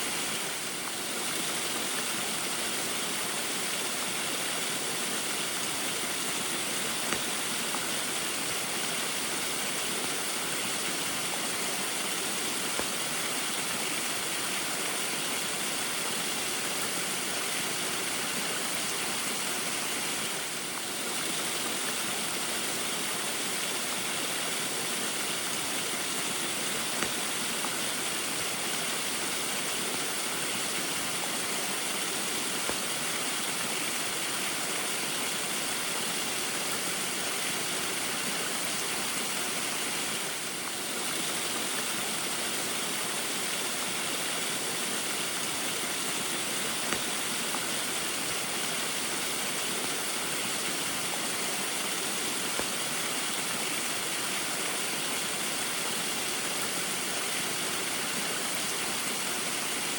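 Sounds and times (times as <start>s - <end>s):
faint drip-like ticks: 0.0s - 59.9s
small waterfall rushing: 0.0s - 59.9s.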